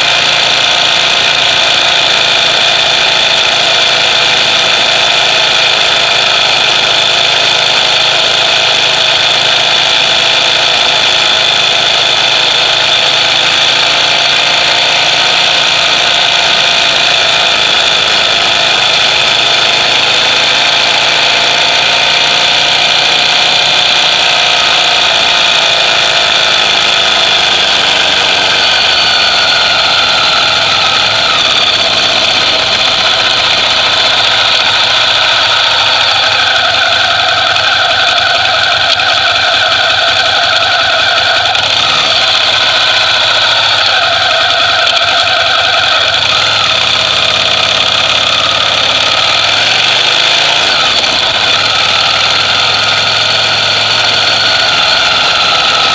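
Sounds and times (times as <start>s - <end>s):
high whine: 0.0s - 55.9s
motorcycle engine idling: 0.0s - 55.9s.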